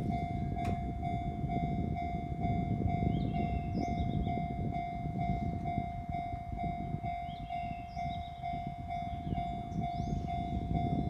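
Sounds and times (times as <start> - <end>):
level crossing warning bell: 0.0 - 11.0
train rumbling past: 0.0 - 11.0.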